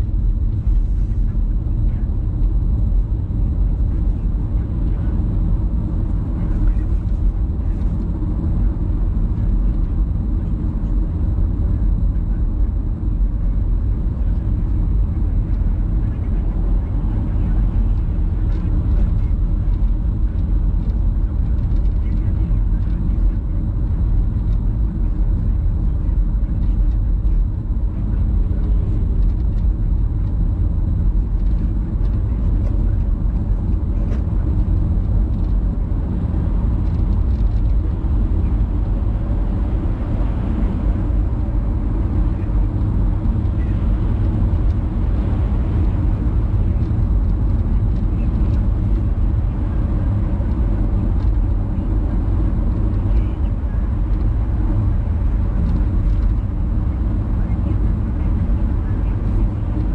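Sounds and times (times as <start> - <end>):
vehicle rumbling in motion: 0.0 - 59.9.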